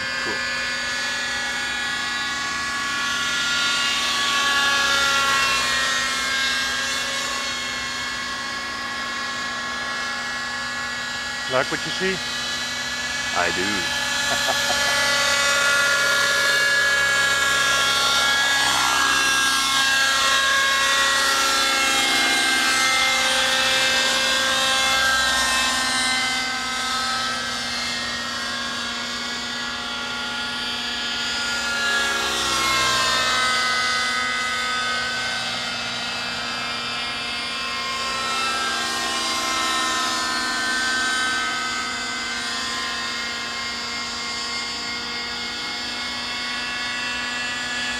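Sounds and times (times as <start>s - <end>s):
rc helicopter engine whine: 0.0s - 47.9s.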